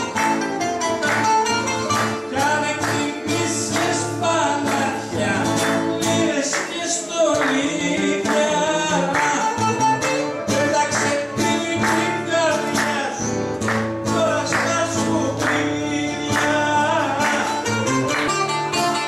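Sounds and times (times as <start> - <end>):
bouzouki: 0.0 - 6.5, 7.7 - 19.0
acoustic guitar: 0.0 - 19.0
man singing: 0.8 - 19.0.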